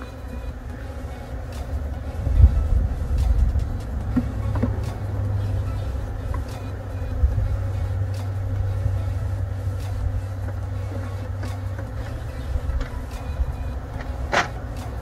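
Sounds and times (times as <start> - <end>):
bees buzzing: 0.0 - 15.0
hive frames clicking: 0.0 - 15.0.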